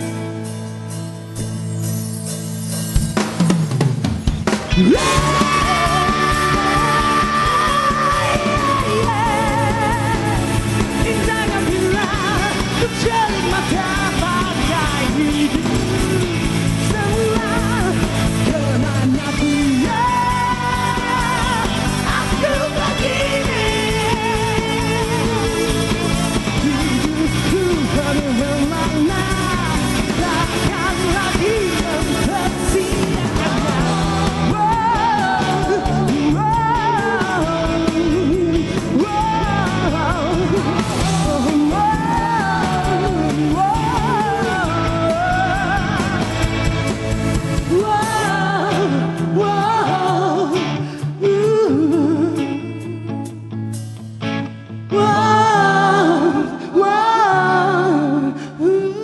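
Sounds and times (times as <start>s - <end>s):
rock band playing: 0.0s - 58.0s
person singing lead vocal: 4.5s - 53.8s, 54.8s - 59.0s.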